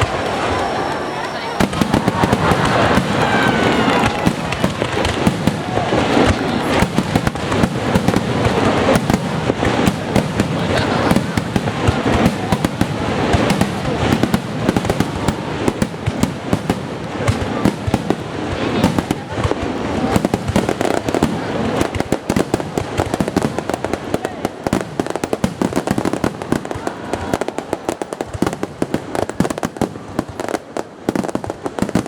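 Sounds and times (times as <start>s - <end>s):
fireworks bursting and crackling: 0.0s - 32.0s
whistling fireworks: 0.0s - 32.0s.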